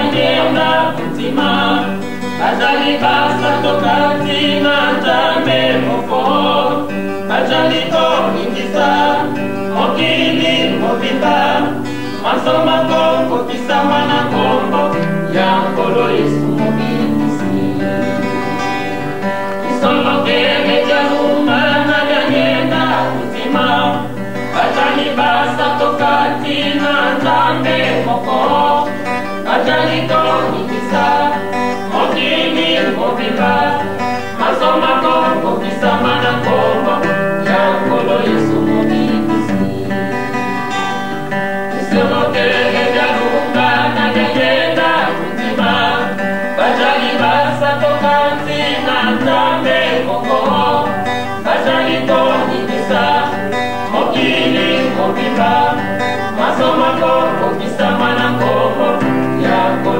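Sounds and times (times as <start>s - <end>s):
plucked guitar: 0.0s - 59.9s
voices singing a hymn: 0.0s - 59.9s.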